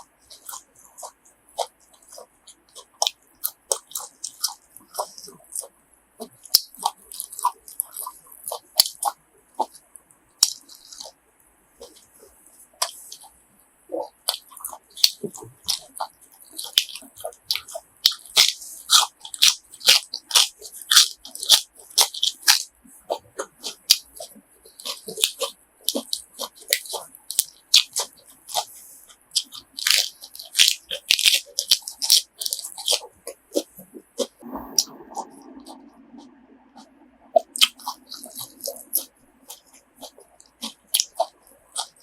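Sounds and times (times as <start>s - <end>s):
wet crunchy chewing: 0.0s - 11.2s, 11.8s - 42.0s.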